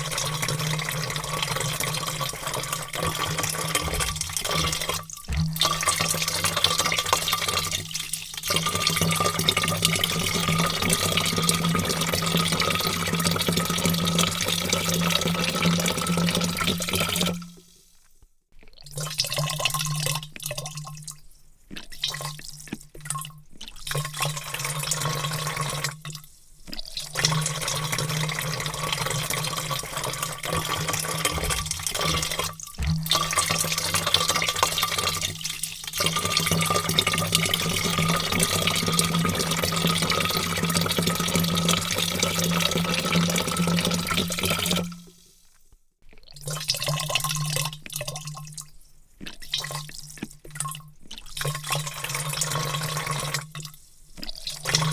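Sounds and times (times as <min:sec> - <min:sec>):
water pouring into a vat: 0:00.0 - 0:54.9.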